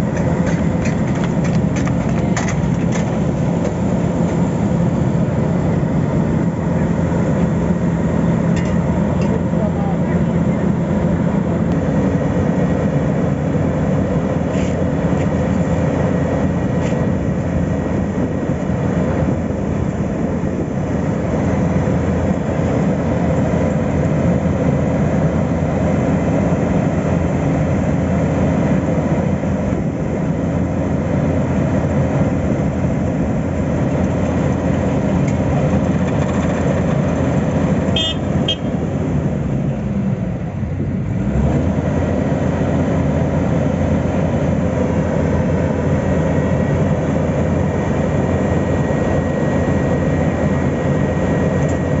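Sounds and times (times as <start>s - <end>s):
paving machinery engine drone: 0.0s - 52.0s.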